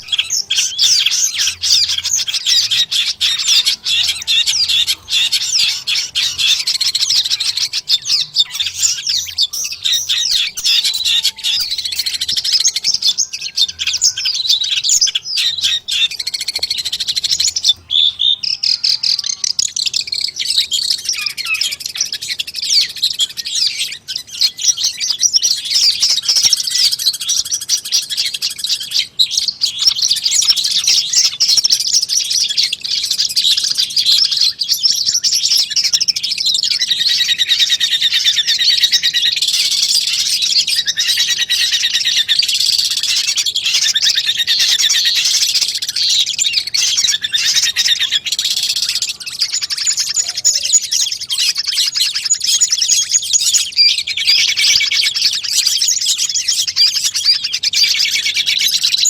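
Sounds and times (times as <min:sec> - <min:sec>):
bird chirps and trills: 0:00.0 - 0:59.0.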